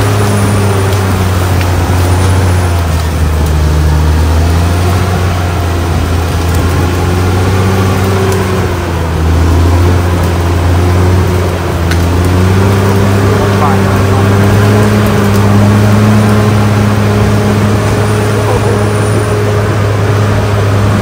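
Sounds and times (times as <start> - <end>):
bulldozer diesel engine under load: 0.0 - 21.0.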